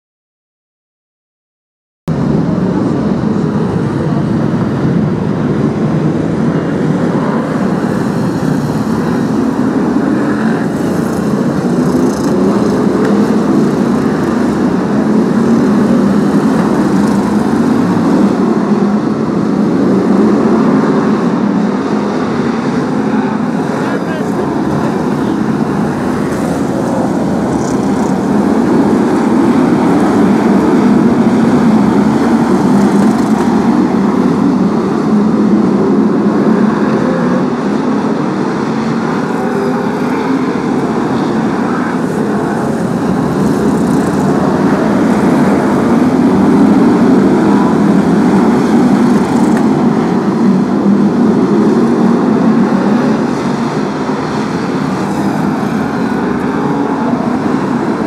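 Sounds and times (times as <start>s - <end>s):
race car engines roaring: 2.1s - 58.0s.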